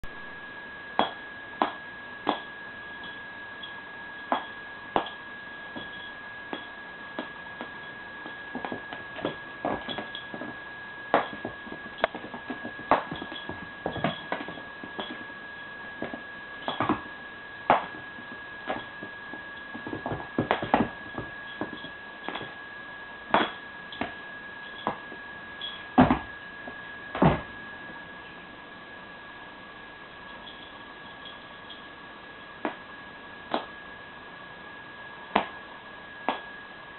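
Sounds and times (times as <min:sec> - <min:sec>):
steady high-pitched whine: 0:00.0 - 0:36.9.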